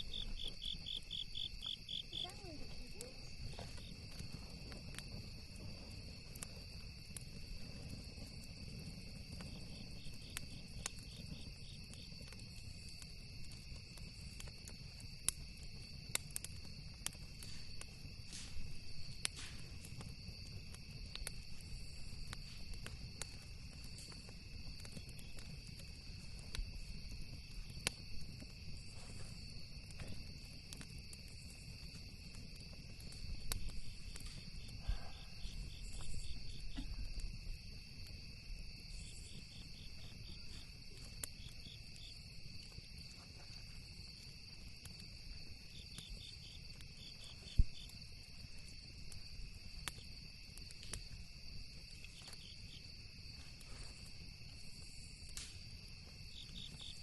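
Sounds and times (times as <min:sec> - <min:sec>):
campfire crackling and popping: 0:00.0 - 0:57.0
crickets trilling: 0:00.0 - 0:57.0.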